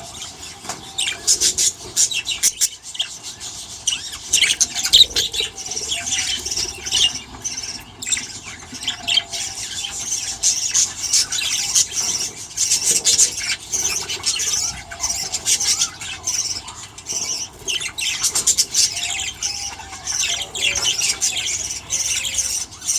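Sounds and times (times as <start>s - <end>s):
budgerigars chattering and chirping: 0.0s - 22.9s.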